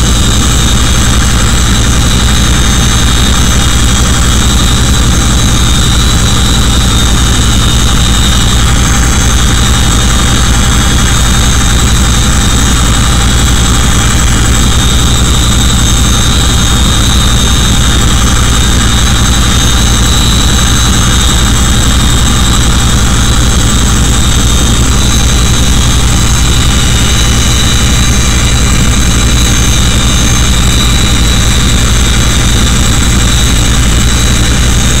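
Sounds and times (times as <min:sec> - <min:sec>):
high engine whines: 0:00.0 - 0:35.0.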